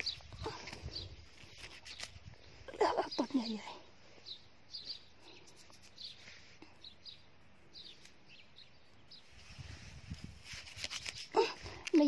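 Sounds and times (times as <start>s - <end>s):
faint birds chirping: 0.0s - 10.3s.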